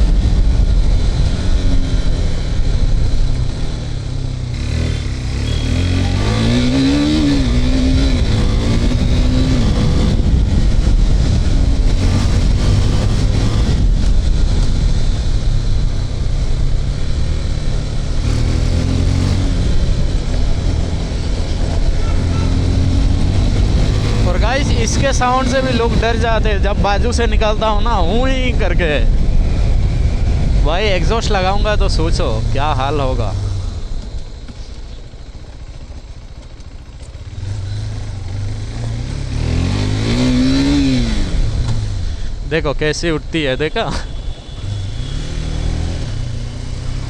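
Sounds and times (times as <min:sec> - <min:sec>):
motorcycle engine running: 0:00.0 - 0:47.0
road and wind noise: 0:00.0 - 0:47.0.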